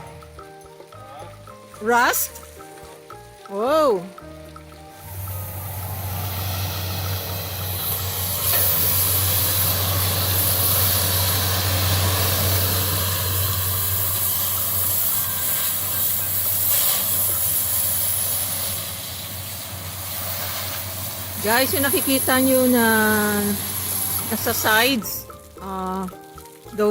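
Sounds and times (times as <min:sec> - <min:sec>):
water jet spraying on metal: 0:00.0 - 0:26.9
pressure washer motor hum: 0:01.4 - 0:26.9.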